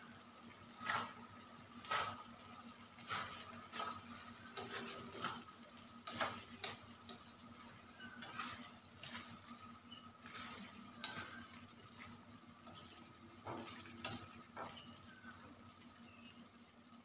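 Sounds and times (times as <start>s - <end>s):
faint steady hum: 0.0s - 17.0s
spatula scraping a metal wok: 0.7s - 2.4s, 3.0s - 15.2s.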